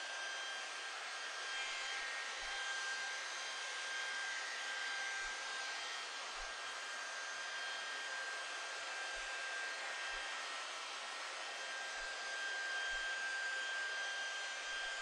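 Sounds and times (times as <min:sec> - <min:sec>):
polisher whining: 0:00.0 - 0:15.0.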